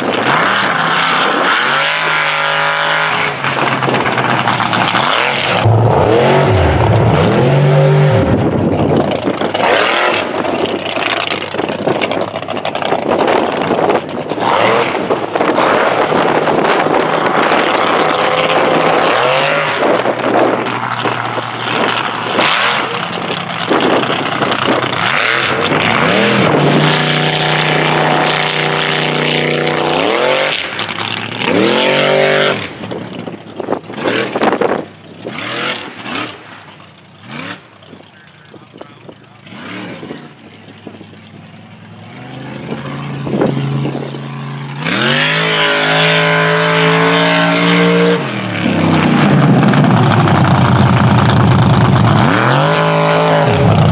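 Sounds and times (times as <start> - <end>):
truck engines revving: 0.0 - 53.9.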